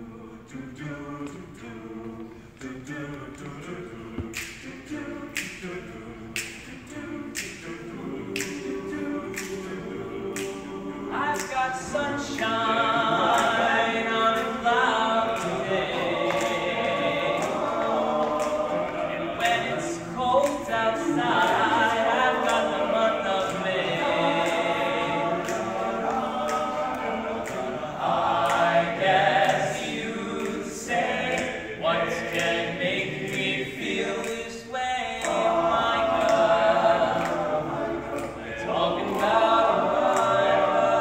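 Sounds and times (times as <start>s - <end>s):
male a cappella group singing: 0.0s - 41.0s.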